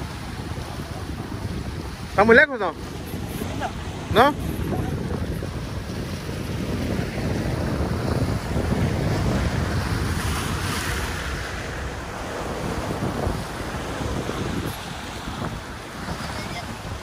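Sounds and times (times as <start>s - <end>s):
surf breaking against rocks: 0.0s - 17.0s
wind buffeting microphone: 0.0s - 17.0s.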